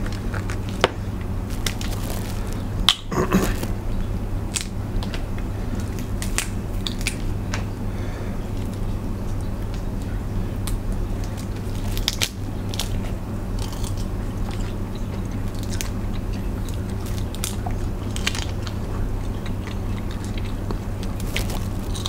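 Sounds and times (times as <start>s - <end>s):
crab shell cracking: 0.0s - 3.8s, 4.5s - 7.7s, 10.6s - 22.0s
low steady hum: 0.0s - 22.0s.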